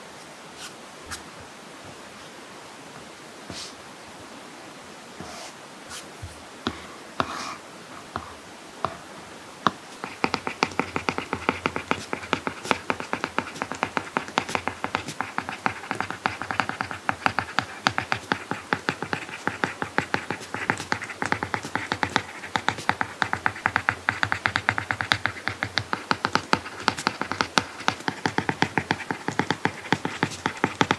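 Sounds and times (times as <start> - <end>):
stylus tapping and scratching on screen: 5.2 - 30.9.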